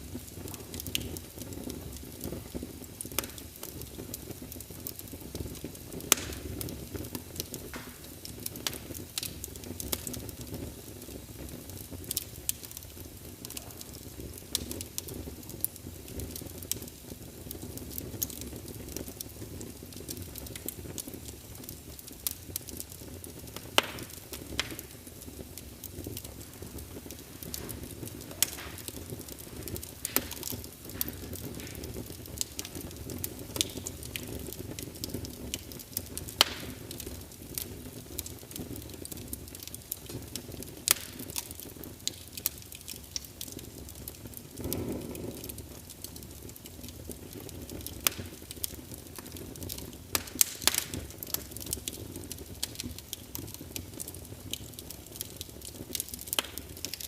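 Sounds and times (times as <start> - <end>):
fire pops and snaps: 0.0 - 57.0
low rush of burning logs: 0.0 - 57.0.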